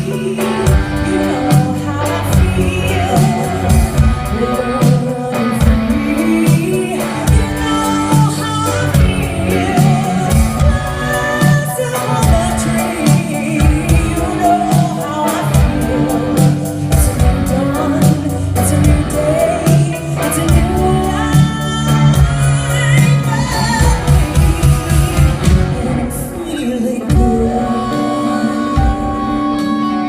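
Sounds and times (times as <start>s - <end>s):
live soul band playing: 0.0s - 30.0s.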